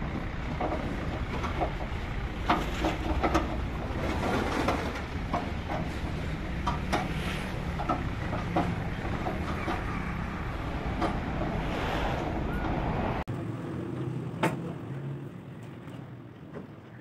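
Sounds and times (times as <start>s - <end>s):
diesel tractor engine running: 0.0s - 15.6s.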